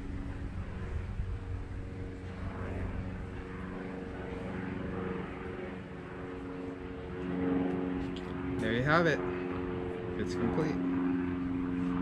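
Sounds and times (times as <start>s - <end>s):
distant engine droning: 0.0s - 12.0s
low steady hum: 0.0s - 12.0s.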